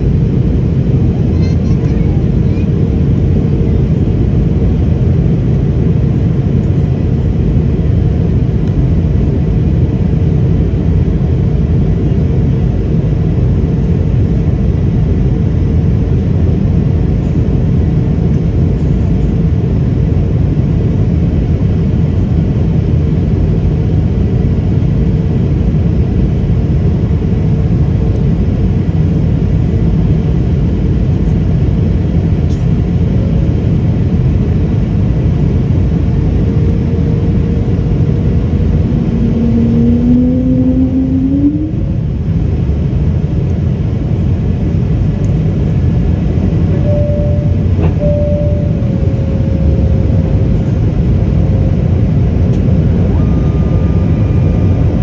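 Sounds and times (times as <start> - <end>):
faint constant hum: 0.0 - 55.0
low rumble of airflow and engines: 0.0 - 55.0.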